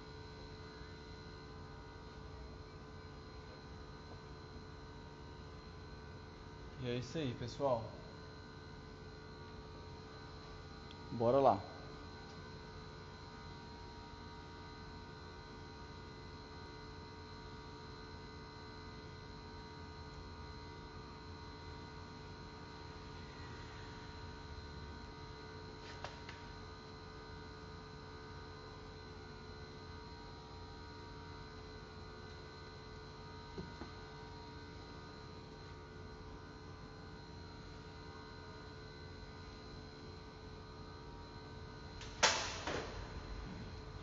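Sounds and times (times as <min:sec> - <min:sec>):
faint electrical hum: 0:00.0 - 0:44.0.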